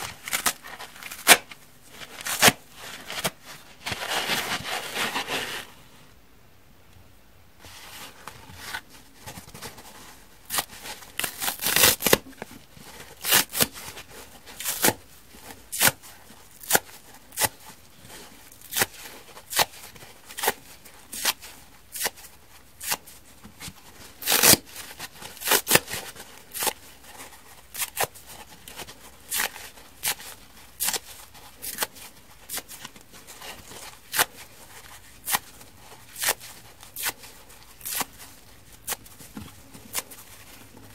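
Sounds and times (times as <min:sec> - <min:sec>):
foam sponge tearing: 0:00.0 - 0:05.8, 0:07.7 - 0:23.3, 0:24.0 - 0:40.9.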